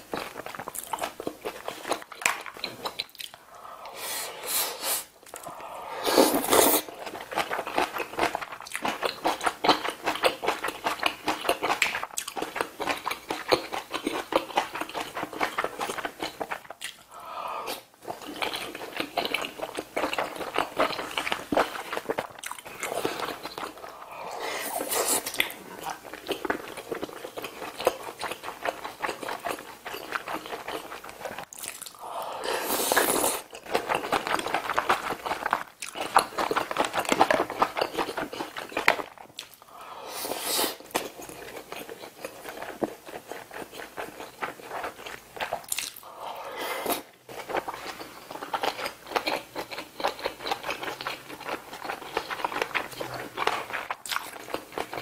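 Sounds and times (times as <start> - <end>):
chewing and smacking: 0.0 - 3.4, 6.4 - 17.1, 18.0 - 24.1, 24.8 - 32.0, 33.0 - 39.7, 40.8 - 46.0, 46.9 - 55.0.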